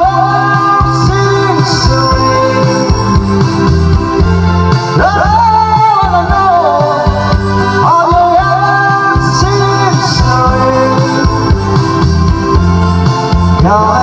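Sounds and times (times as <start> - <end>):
person singing: 0.0 - 4.0, 4.8 - 12.0, 13.3 - 14.0
band playing: 0.0 - 14.0.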